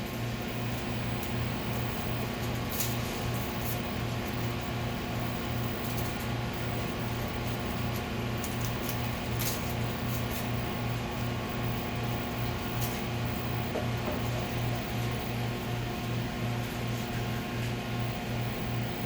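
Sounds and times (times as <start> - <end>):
shop equipment humming: 0.0 - 19.0.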